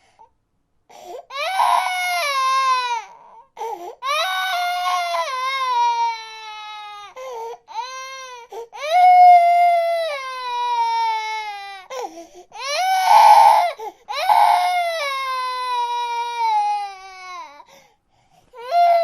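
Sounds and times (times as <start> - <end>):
infant crying: 0.9 - 17.8, 18.6 - 19.0.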